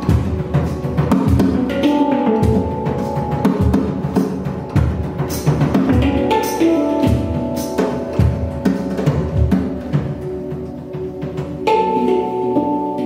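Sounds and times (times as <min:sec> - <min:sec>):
handpan playing: 0:00.0 - 0:13.0.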